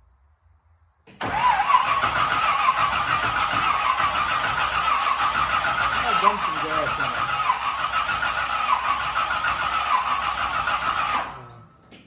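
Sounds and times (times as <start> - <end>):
car engine running loud: 1.2 - 11.5.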